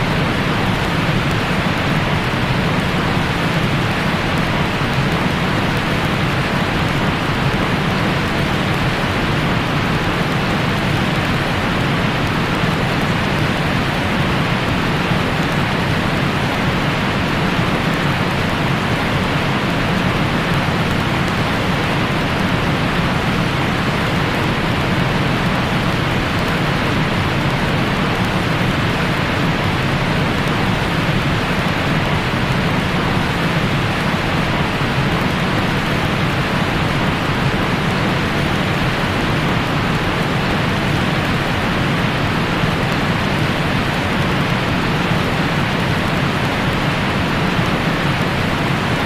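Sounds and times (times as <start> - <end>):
white noise hiss: 0.0 - 49.0.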